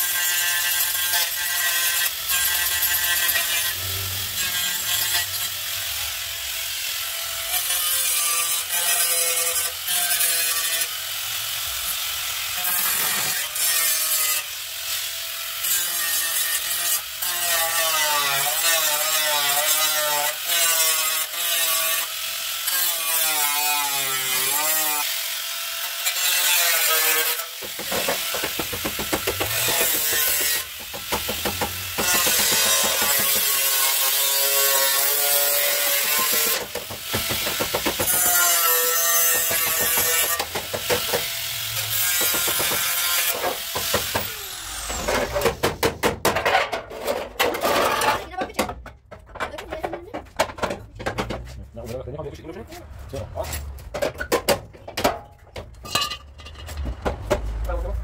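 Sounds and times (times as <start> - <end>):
angle grinder cutting metal: 0.0 - 48.8.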